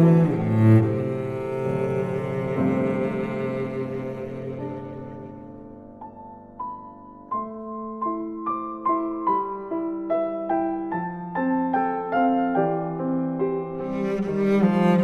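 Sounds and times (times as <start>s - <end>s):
piano notes: 0.0s - 15.0s.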